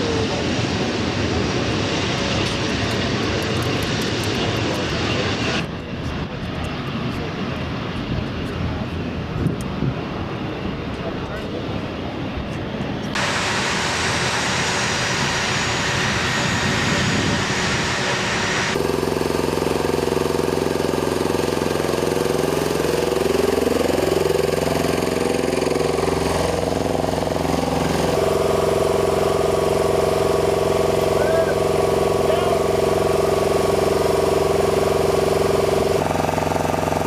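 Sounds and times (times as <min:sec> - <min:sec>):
aircraft engines running: 0:00.0 - 0:37.0
faint high engine whine: 0:00.0 - 0:37.0.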